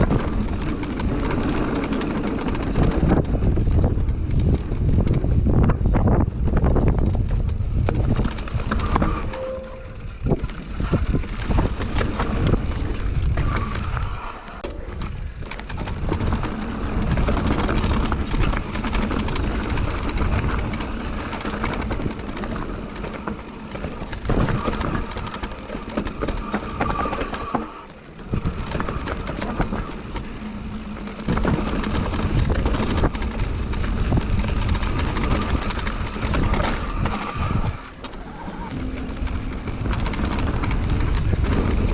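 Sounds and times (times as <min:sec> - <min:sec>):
tyres rolling over dirt: 0:00.0 - 0:05.8, 0:10.0 - 0:41.9
bike chain and frame rattling: 0:00.0 - 0:41.9
wind buffeting microphone: 0:00.0 - 0:41.9.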